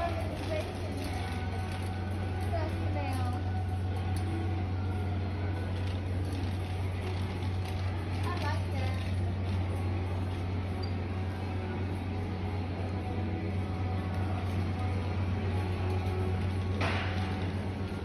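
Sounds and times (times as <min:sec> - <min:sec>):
shopping cart rumbling: 0:00.0 - 0:18.0
ventilation drone: 0:00.0 - 0:18.0.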